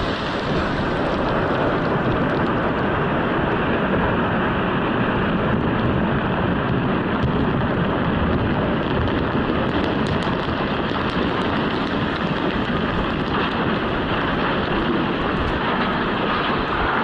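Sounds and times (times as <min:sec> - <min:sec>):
rumble of rockfall blast: 0:00.0 - 0:17.0.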